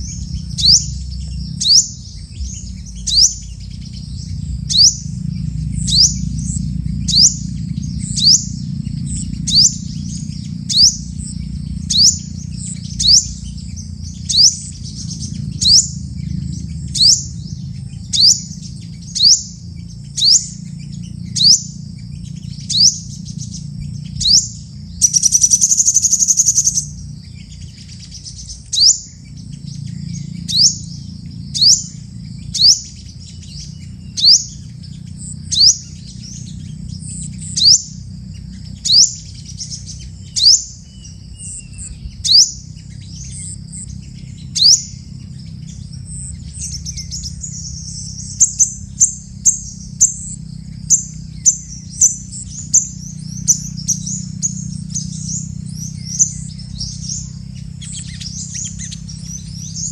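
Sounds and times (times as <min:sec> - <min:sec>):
low steady rumble: 0:00.0 - 0:59.9.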